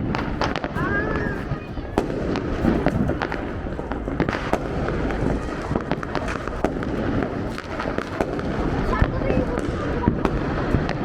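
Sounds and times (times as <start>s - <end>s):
distant bangs rumbling: 0.0s - 11.0s
firecrackers cracking and popping: 0.0s - 11.0s.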